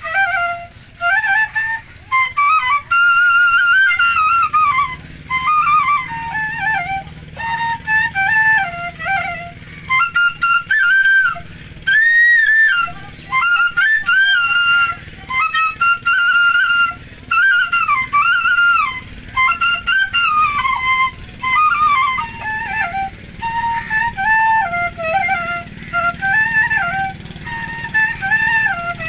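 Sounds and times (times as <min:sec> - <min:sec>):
bamboo flute melody: 0:00.0 - 0:29.0.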